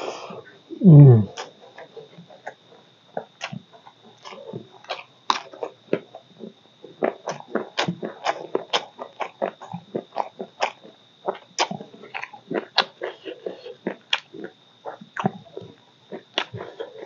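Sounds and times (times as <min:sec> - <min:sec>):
faint high whine: 0:00.0 - 0:17.0
wet chewing and lip-smacking: 0:01.3 - 0:17.0.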